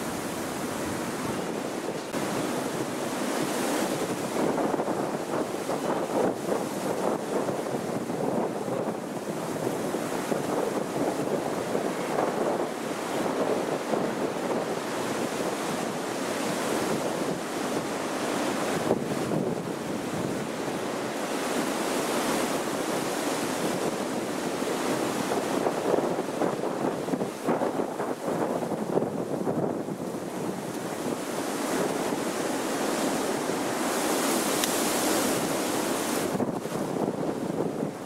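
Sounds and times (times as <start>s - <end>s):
strong gusting wind on microphone: 0.0s - 38.0s.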